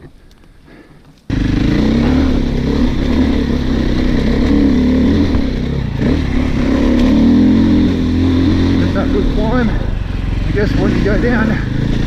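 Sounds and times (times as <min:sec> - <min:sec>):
dirt bike engine running: 0:01.3 - 0:12.0.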